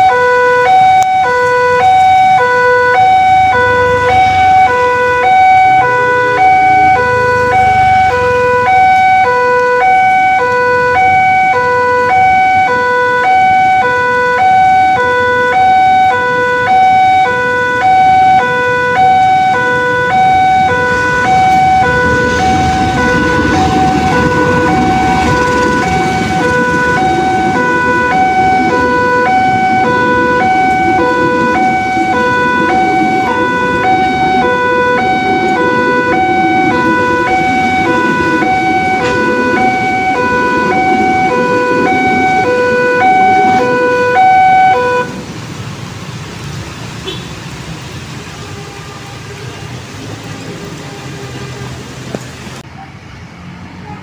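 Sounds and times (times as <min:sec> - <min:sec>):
level crossing warning alarm: 0:00.0 - 0:45.3
passenger train rumble: 0:00.0 - 0:54.0.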